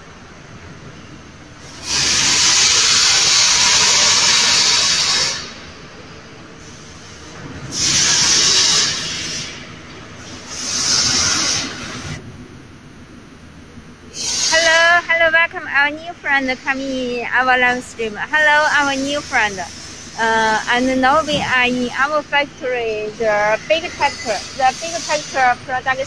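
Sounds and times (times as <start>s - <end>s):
loud hissing bursts: 1.6s - 12.2s, 14.0s - 15.0s, 16.4s - 26.0s.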